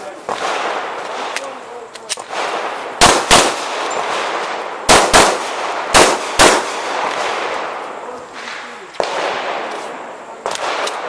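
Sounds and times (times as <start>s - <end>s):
pistol shots ringing out: 0.2s - 9.8s, 10.4s - 11.0s.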